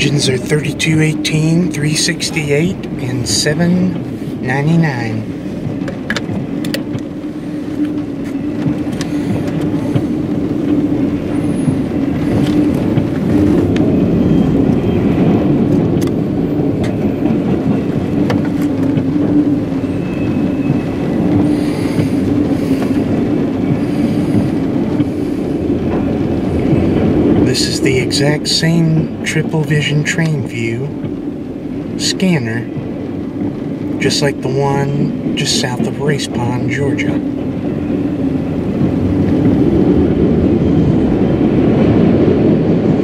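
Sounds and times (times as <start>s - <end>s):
steady low hum: 0.0s - 43.0s
steel train wheels rumbling on rails: 0.0s - 43.0s.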